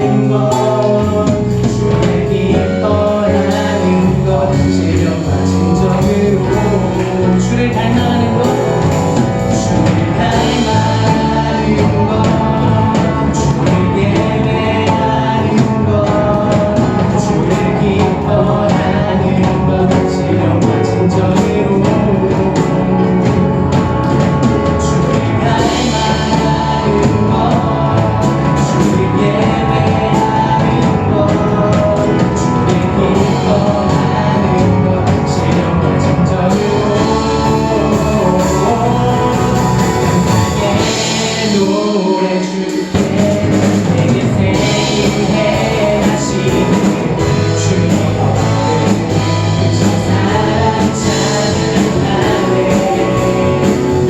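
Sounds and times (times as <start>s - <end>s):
live worship band playing: 0.0s - 54.0s
voices singing: 0.0s - 54.0s.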